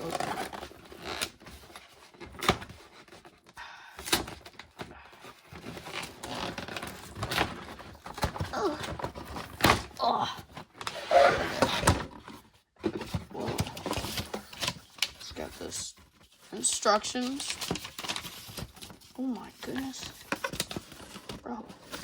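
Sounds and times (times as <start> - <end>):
cardboard box rustling: 4.2 - 22.0.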